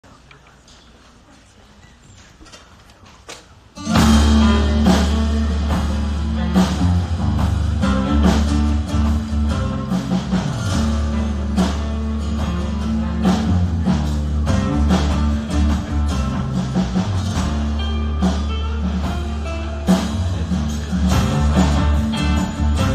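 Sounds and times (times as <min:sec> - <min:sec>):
electric guitar: 0:03.8 - 0:22.9
heavy bass line: 0:03.8 - 0:22.9
steady drum beat: 0:03.8 - 0:22.9
strummed acoustic guitar: 0:03.8 - 0:22.9.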